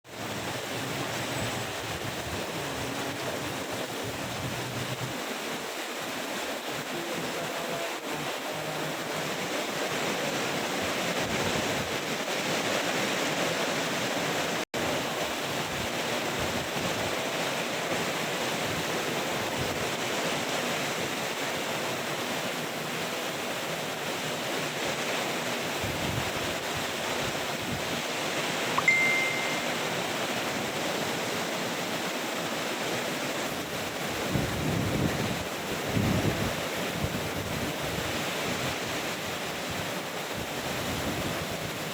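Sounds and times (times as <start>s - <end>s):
heavy rain pouring: 0.0s - 41.9s
strong wind: 0.1s - 41.9s.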